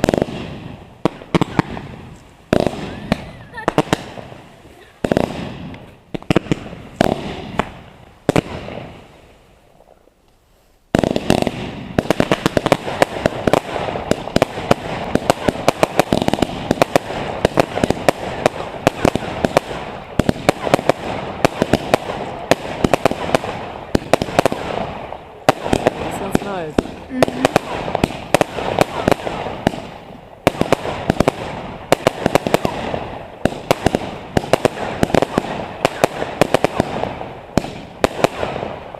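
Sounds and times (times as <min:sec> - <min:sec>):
fireworks and firecrackers banging: 0:00.0 - 0:10.2, 0:10.9 - 0:38.9
crackles: 0:00.0 - 0:38.9.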